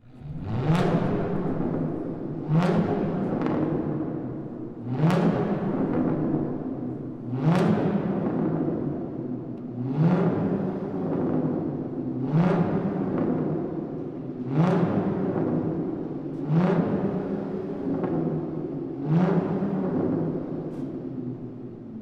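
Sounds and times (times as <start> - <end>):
car engine revving with echo: 0.0 - 22.0.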